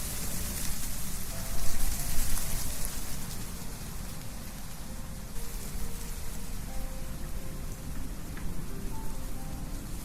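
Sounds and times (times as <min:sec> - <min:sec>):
leaves rustling: 0:00.0 - 0:10.0
wind blowing through trees: 0:00.0 - 0:10.0.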